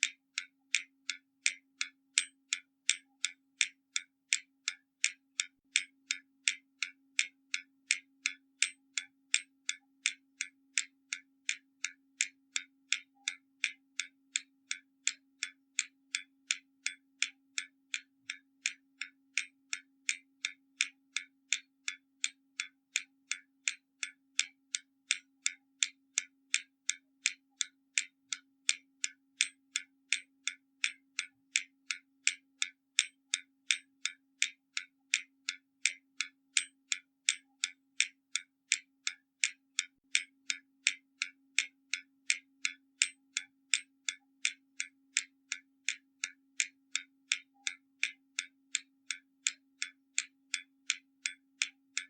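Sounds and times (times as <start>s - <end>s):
clock ticking: 0.0s - 52.0s.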